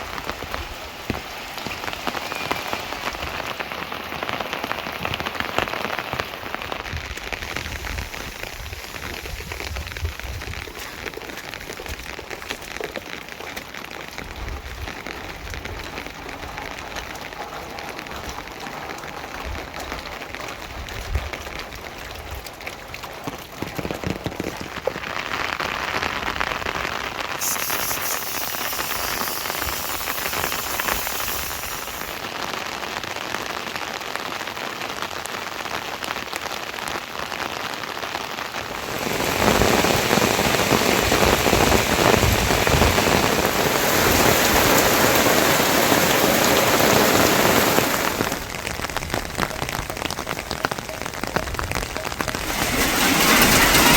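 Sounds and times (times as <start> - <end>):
rain pattering: 0.0 - 53.9.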